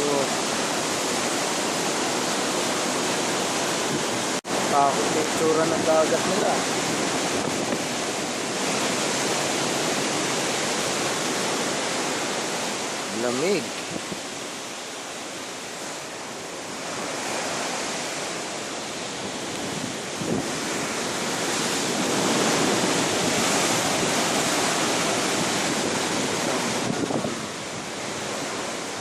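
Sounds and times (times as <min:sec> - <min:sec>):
ocean waves breaking: 0:00.0 - 0:29.0
wind on microphone: 0:00.0 - 0:29.0.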